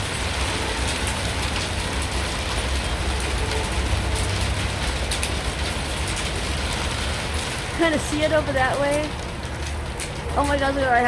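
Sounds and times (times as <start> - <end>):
hail and rain pelting: 0.0 - 11.0
hailstones ticking: 0.0 - 11.0.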